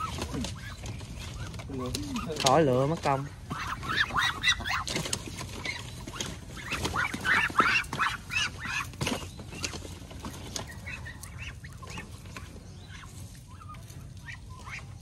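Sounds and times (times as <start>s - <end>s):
ducks calling: 0.0s - 15.0s.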